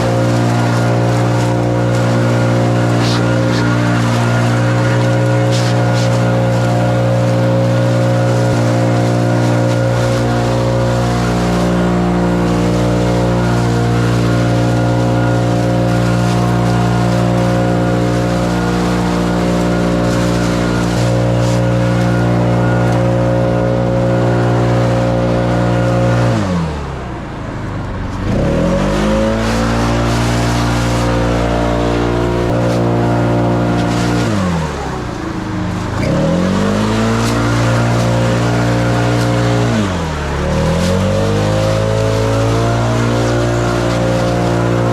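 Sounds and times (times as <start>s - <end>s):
small petrol engine running: 0.0s - 44.9s.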